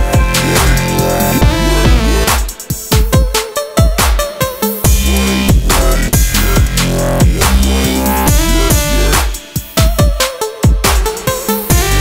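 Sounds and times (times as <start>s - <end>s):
dubstep music: 0.0s - 12.0s.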